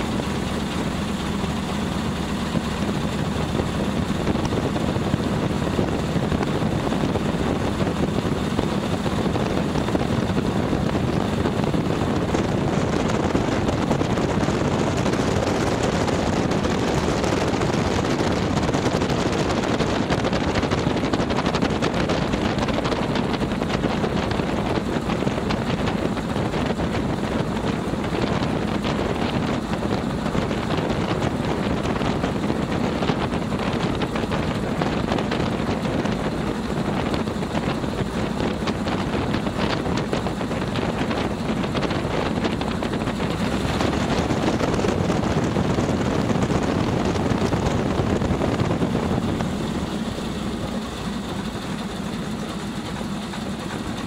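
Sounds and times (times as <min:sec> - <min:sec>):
biplane engine running: 0:00.0 - 0:54.0
propeller noise: 0:00.0 - 0:54.0.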